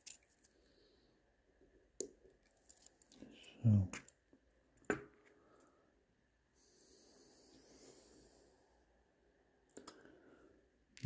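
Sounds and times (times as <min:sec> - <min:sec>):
faint soft hiss: 0:00.0 - 0:11.0.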